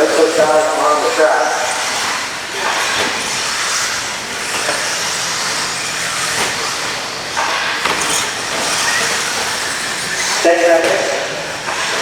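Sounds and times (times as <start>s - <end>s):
radio-controlled trucks racing: 0.0s - 12.0s.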